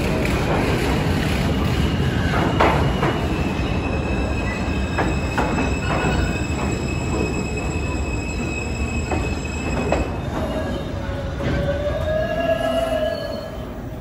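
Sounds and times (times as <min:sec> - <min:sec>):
train wheels rumbling on rail: 0:00.0 - 0:14.0
high wheel squeal: 0:02.1 - 0:13.9.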